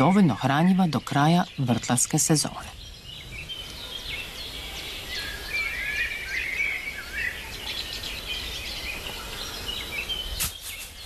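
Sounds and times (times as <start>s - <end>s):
low outdoor background: 0.0s - 11.0s
songbirds chirping and whistling: 0.0s - 11.0s.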